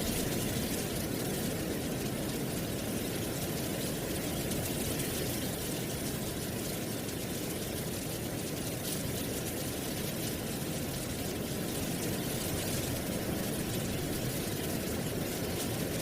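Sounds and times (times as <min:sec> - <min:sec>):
wind blowing through trees: 0:00.0 - 0:16.0.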